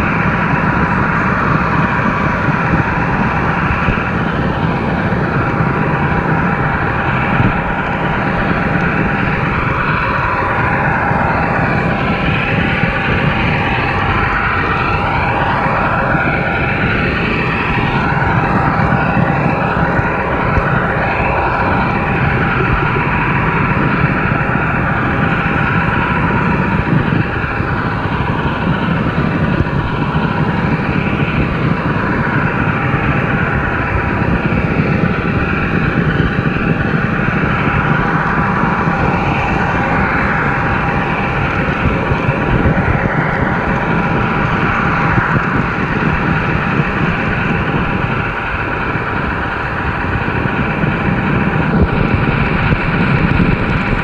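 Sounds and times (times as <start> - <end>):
model train motor hum: 0.0 - 54.0
wheels on rails: 0.0 - 54.0.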